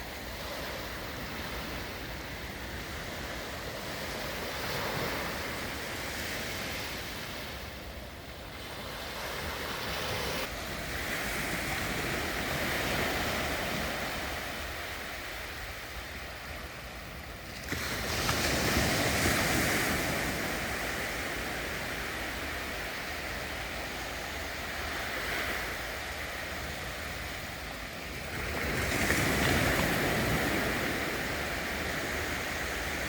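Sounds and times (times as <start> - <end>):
sea waves breaking on shore: 0.0 - 33.0.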